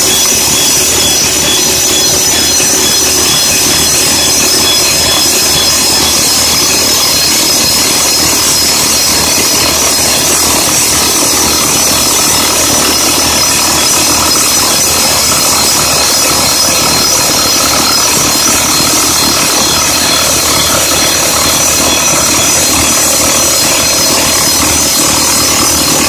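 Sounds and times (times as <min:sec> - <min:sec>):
rock drill hammering: 0:00.0 - 0:26.0.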